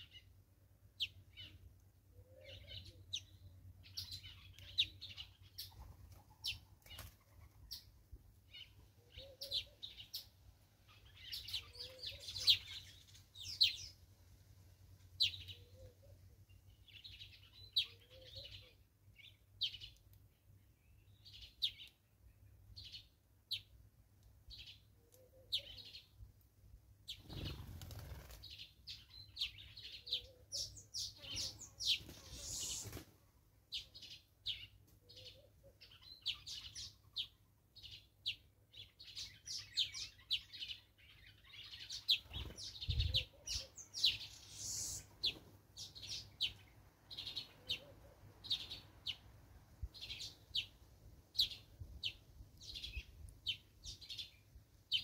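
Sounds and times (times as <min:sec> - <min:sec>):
small birds chirping: 0:00.0 - 0:14.4, 0:15.0 - 0:26.2, 0:27.0 - 0:55.0.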